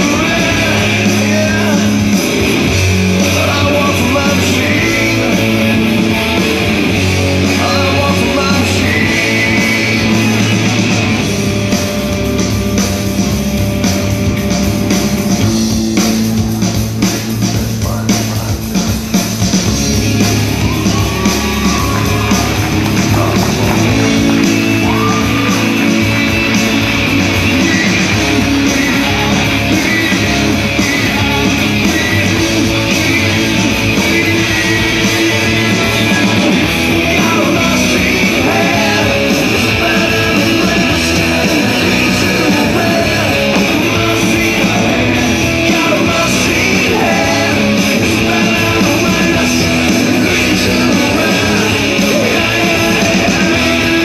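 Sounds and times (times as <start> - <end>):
person singing: 0.0 - 10.9, 20.2 - 54.0
loud rock music: 0.0 - 54.0.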